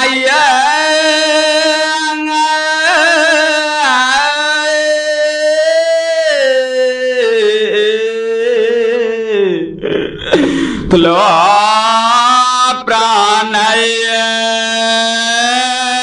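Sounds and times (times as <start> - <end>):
person chanting unaccompanied: 0.0 - 16.0.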